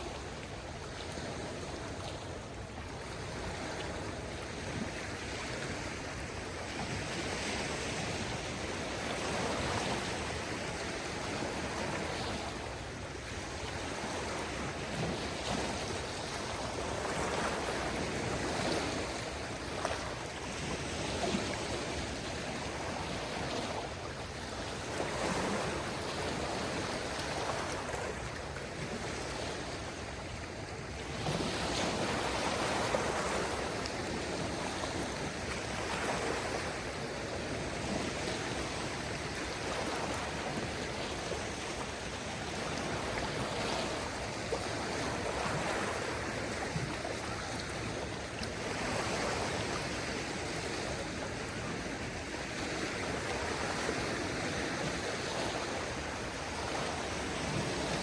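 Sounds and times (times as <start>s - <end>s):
small waves washing onto shore: 0.0s - 58.0s.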